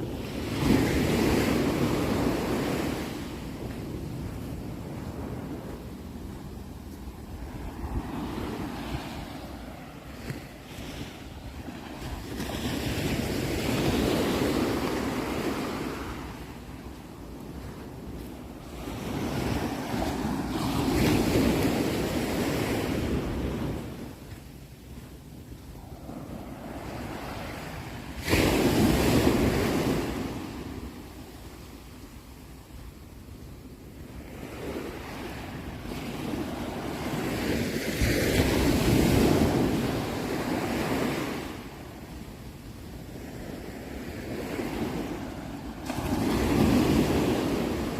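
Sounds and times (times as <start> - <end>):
sea waves breaking on shore: 0.0 - 33.0, 34.0 - 47.9.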